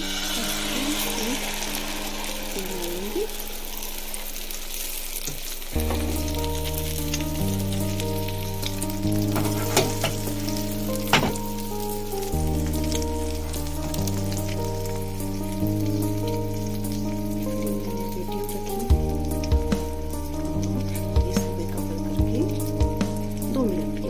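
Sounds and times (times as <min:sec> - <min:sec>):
batter sizzling in a frying pan: 0:00.0 - 0:24.0
slow held chords music: 0:00.0 - 0:24.0.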